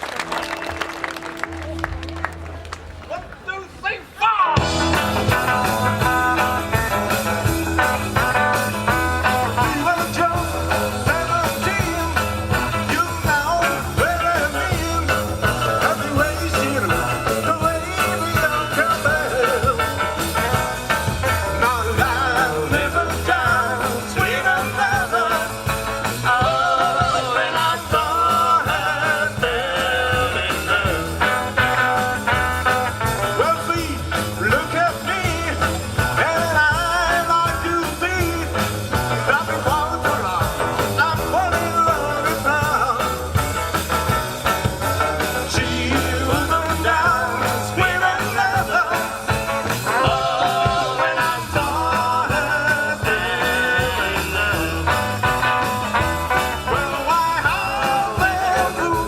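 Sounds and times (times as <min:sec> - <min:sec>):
live rock band playing: 0:04.6 - 0:59.0.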